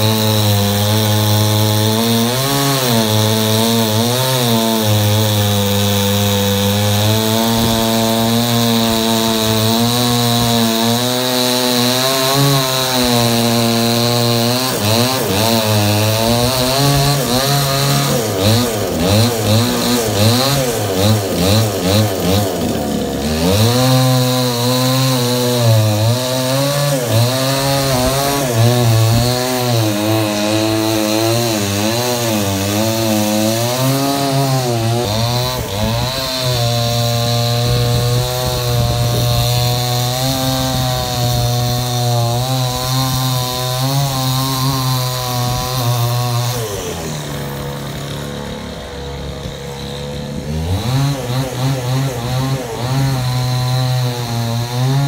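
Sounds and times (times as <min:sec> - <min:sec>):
chainsaw cutting tree: 0:00.0 - 0:55.0.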